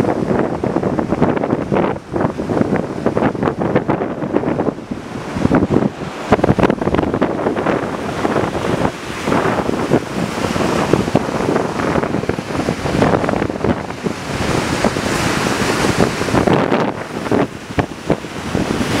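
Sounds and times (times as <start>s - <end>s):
wind buffeting microphone: 0.0s - 19.0s
surf breaking on pebble beach: 0.2s - 19.0s.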